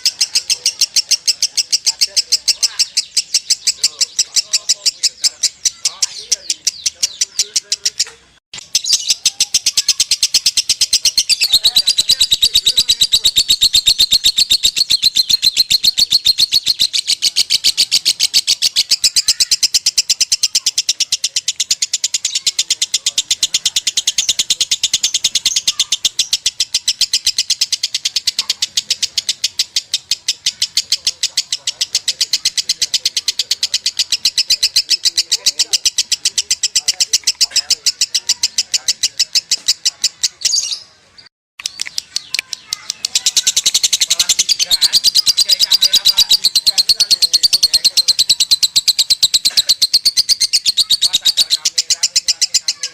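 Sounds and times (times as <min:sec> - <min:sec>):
lovebird chattering trill: 0:00.0 - 0:52.9.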